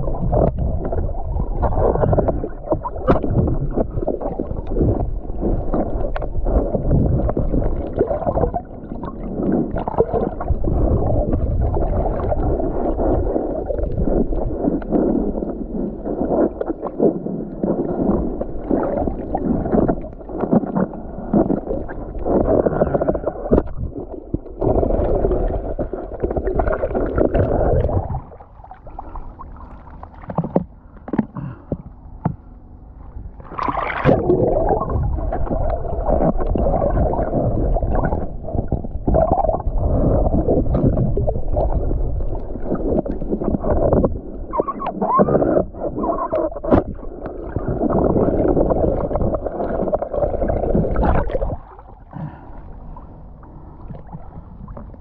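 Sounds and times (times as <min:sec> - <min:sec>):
sea water sloshing and gurgling: 0:00.0 - 0:55.0.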